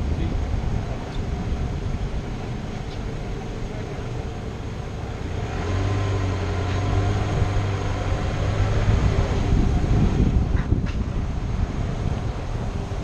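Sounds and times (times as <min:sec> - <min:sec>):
car engine humming: 0:00.0 - 0:13.0
tyres rolling on pavement: 0:00.0 - 0:13.0.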